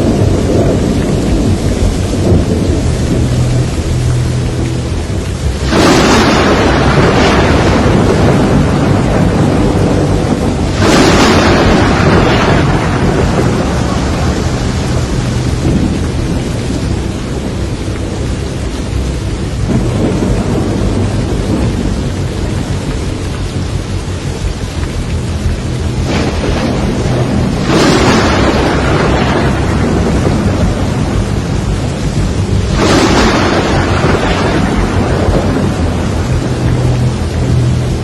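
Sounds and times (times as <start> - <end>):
heavy rain: 0.0 - 38.0
thunder rumbling: 0.0 - 38.0.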